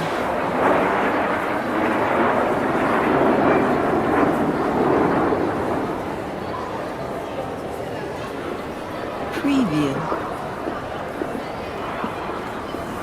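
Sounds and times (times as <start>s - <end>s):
airport background rush: 0.0s - 13.0s.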